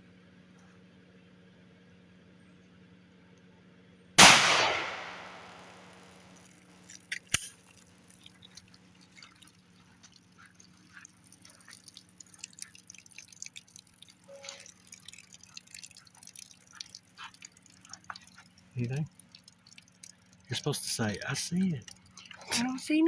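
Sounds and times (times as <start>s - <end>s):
water dripping and splashing: 4.2s - 23.0s.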